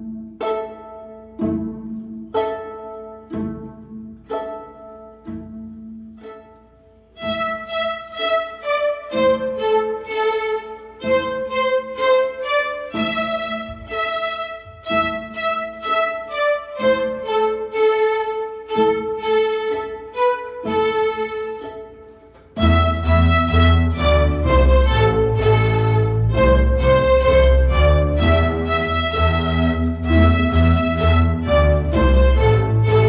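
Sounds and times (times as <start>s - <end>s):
bowed strings melody: 0.0s - 33.0s
pizzicato string notes: 0.0s - 33.0s.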